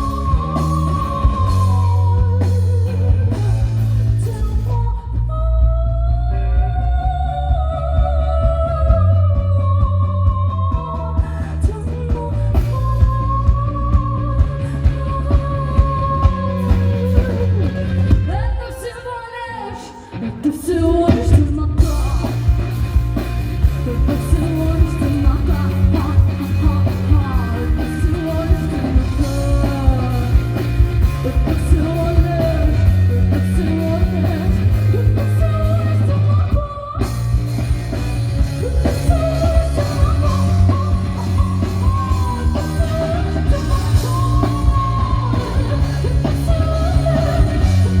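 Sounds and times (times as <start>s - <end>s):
live rock band playing: 0.0s - 5.3s, 6.3s - 18.9s, 19.7s - 48.0s
person singing: 0.0s - 48.0s.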